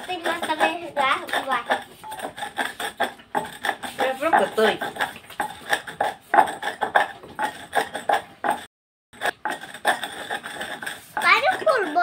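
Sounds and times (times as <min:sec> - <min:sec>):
wooden pestle pounding in metal bowl: 0:00.0 - 0:12.0.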